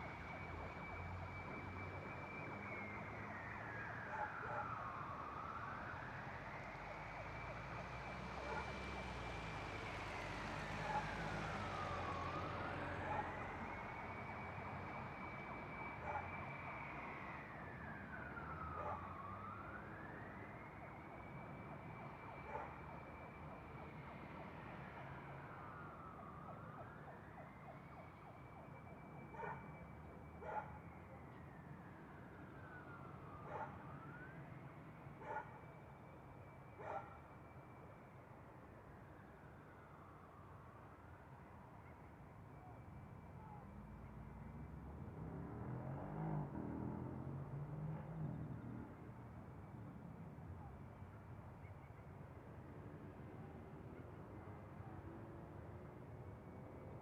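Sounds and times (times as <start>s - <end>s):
distant siren wailing: 0.0s - 57.0s.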